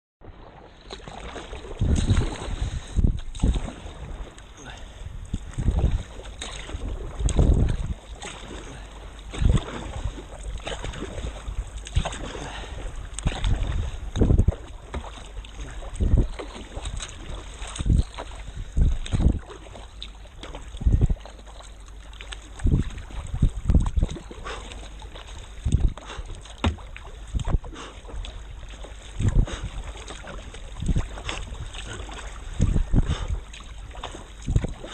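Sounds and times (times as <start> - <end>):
water lapping against kayak: 0.2 - 34.9
wind on microphone: 1.2 - 21.4, 22.4 - 34.9.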